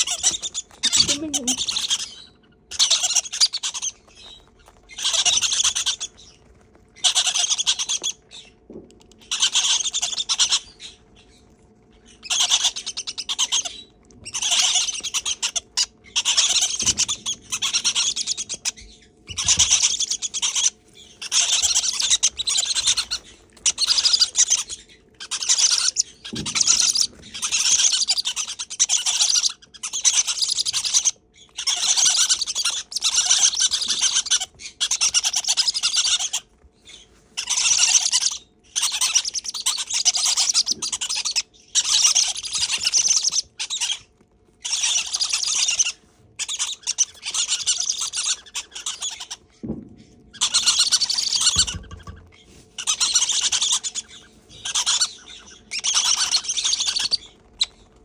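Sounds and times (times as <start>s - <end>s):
parrot chicks rasping begging calls: 0.0s - 49.6s, 50.3s - 58.0s.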